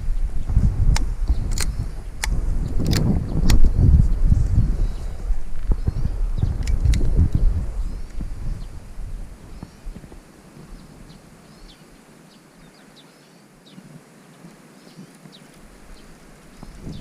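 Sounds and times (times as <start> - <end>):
faint outdoor hiss: 0.0 - 17.0
small birds chirping: 0.0 - 17.0.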